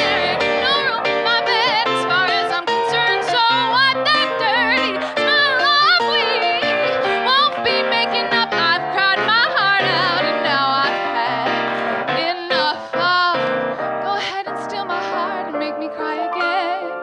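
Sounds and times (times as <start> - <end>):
piano accompaniment: 0.0 - 17.0
woman singing: 0.0 - 17.0.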